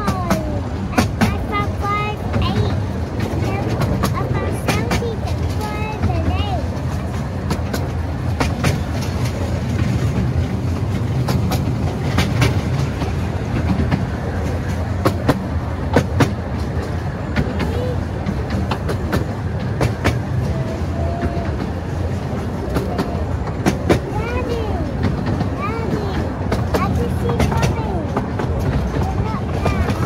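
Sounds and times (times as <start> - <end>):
miniature train rumbling: 0.0 - 30.0
wheels clicking over rail joints: 0.0 - 30.0.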